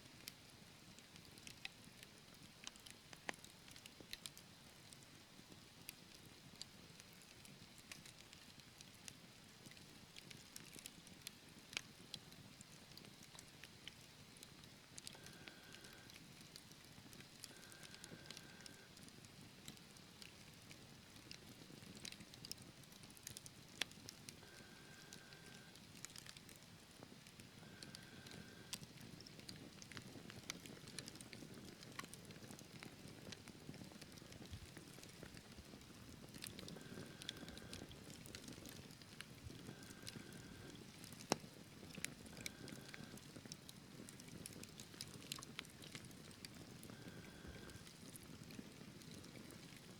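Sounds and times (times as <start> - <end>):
wood fire crackling: 1.0 - 49.9.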